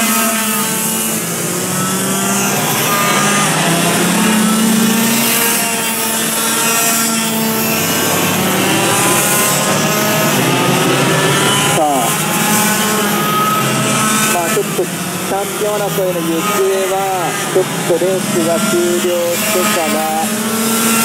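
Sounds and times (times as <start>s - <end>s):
racing kart engines: 0.0s - 21.0s.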